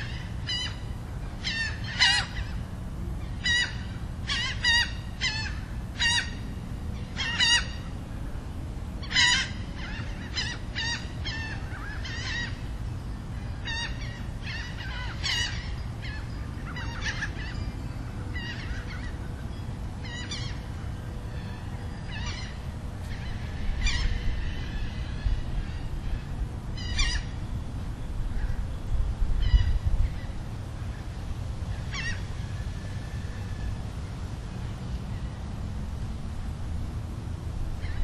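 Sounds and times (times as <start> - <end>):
birds calling: 0.0 - 8.4, 9.0 - 35.5
low background noise: 0.0 - 38.0.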